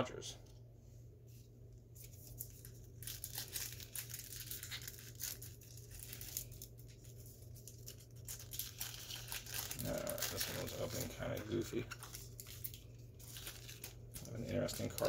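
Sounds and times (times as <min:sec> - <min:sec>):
foil wrapper tearing and crinkling: 0:02.0 - 0:15.0.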